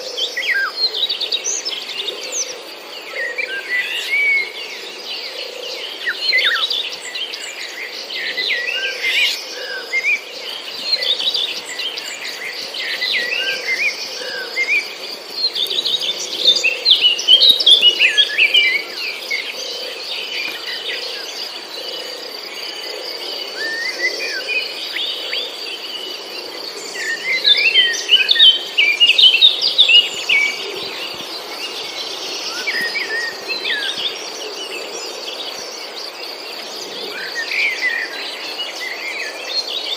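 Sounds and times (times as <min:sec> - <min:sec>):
small birds chirping: 0:03.2 - 0:39.9.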